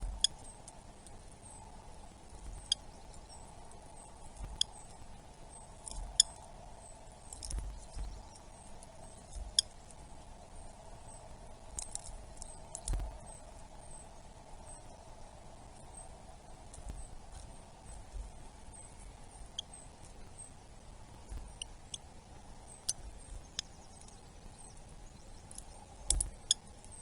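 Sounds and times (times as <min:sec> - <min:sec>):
bird chip calls: 0:00.0 - 0:15.0, 0:15.7 - 0:27.0
faint high chirps: 0:00.0 - 0:27.0
steady background hiss: 0:00.0 - 0:27.0.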